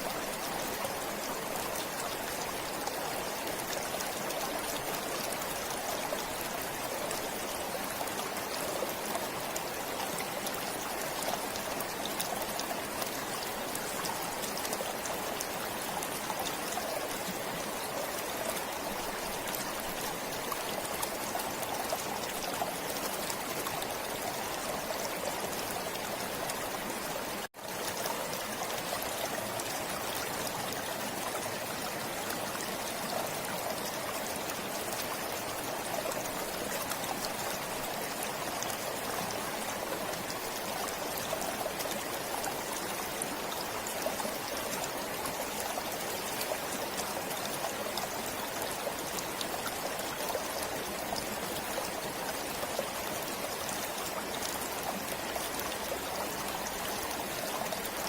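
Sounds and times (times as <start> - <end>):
stream of water flowing: 0.0 - 58.0.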